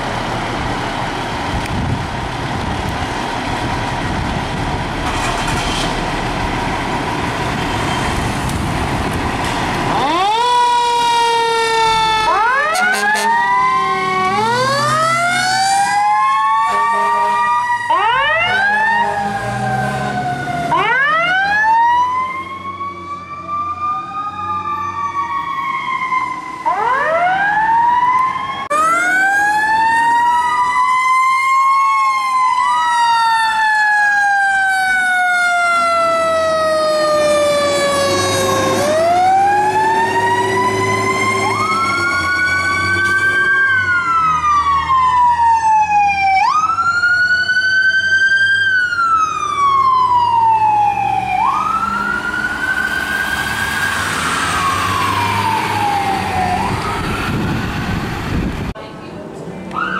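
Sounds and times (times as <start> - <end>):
emergency vehicle siren wailing: 0.0 - 58.8, 59.6 - 59.9.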